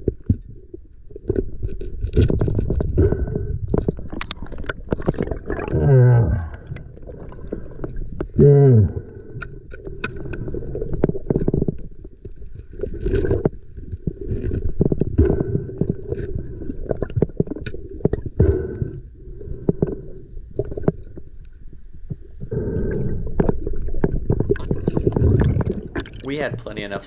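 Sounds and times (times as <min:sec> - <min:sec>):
clicks and knocks underwater: 0:00.0 - 0:26.7
underwater rumble: 0:00.0 - 0:27.0.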